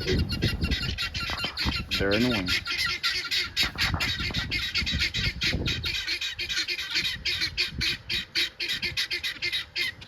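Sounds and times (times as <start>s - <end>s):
farm birds squawking: 0.0s - 10.0s.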